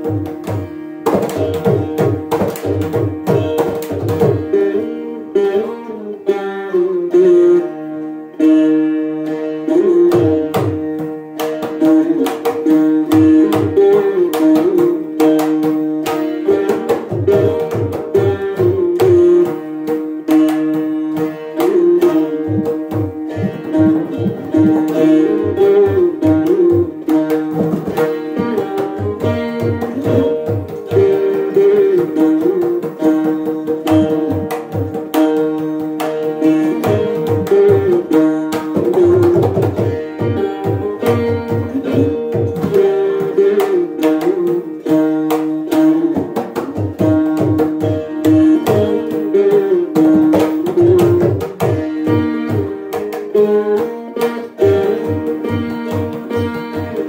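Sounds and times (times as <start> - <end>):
mridangam drum strokes: 0.0 - 57.0
veena melody with sliding notes: 0.0 - 57.0.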